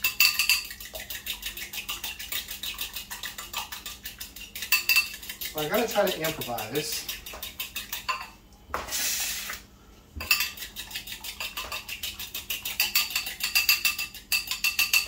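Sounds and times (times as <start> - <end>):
fork clicking against bowl: 0.0 - 8.2, 10.2 - 15.0.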